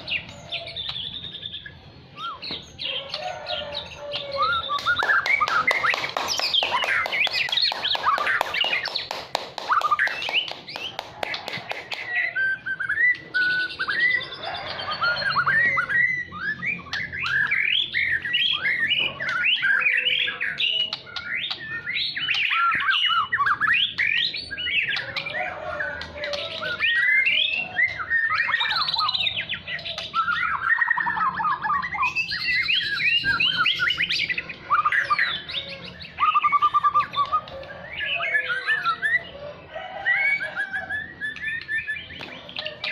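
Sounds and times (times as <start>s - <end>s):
songbird singing whistled phrases: 0.8s - 2.7s, 4.2s - 9.0s, 12.1s - 25.2s, 26.4s - 39.3s, 40.1s - 42.9s.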